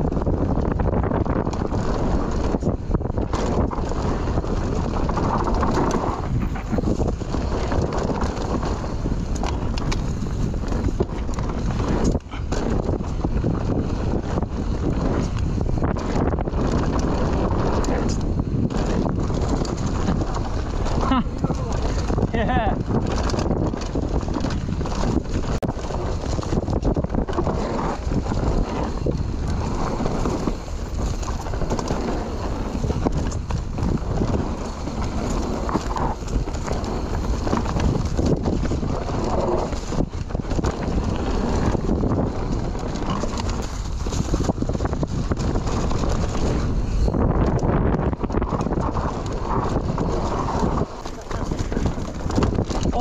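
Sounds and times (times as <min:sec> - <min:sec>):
bike and chain rattling: 0:00.0 - 0:53.0
tyres rumbling over dirt: 0:00.0 - 0:53.0.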